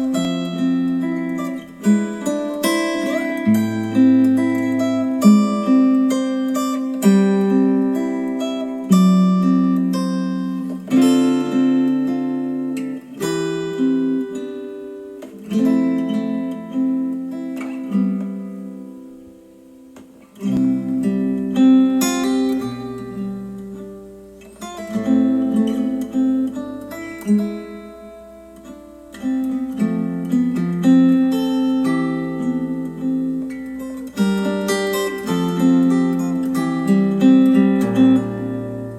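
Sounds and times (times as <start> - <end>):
acoustic guitar through speakers: 0.0 - 38.9.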